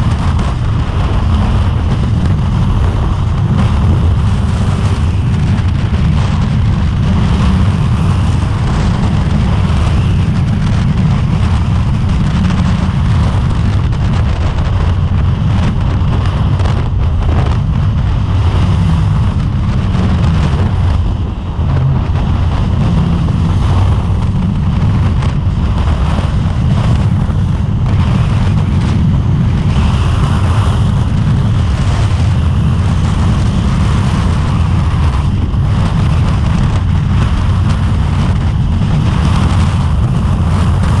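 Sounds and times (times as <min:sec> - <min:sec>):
motorcycle engine cruising: 0:00.0 - 0:41.0
wind buffeting microphone: 0:00.0 - 0:41.0.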